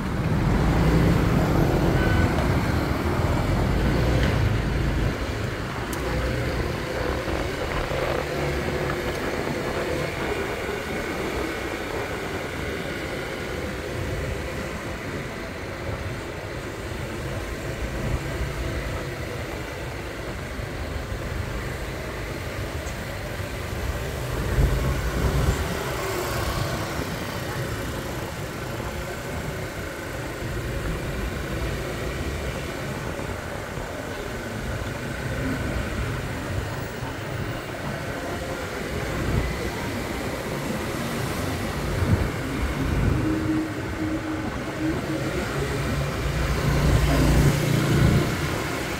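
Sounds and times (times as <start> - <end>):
passing traffic: 0.0 - 48.9
road and wind rumble: 0.0 - 48.9.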